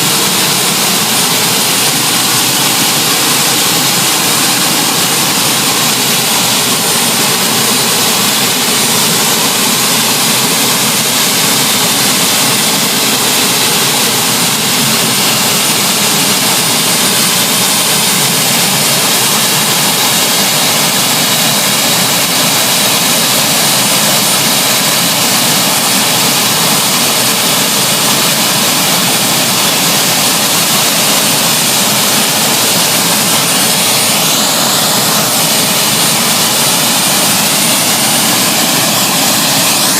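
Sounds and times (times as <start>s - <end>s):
gas-turbine engines running: 0.0s - 39.9s
high turbine whine: 0.0s - 39.9s.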